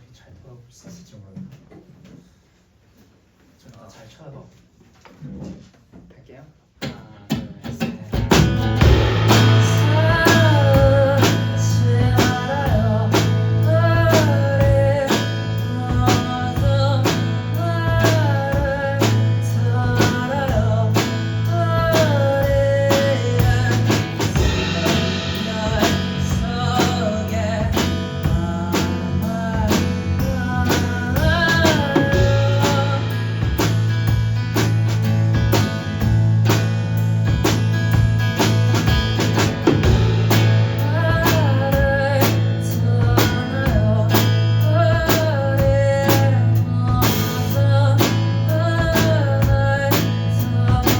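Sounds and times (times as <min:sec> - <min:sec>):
drum kit beat: 0:06.8 - 0:50.9
guitar: 0:06.8 - 0:50.9
bass line: 0:08.2 - 0:50.9.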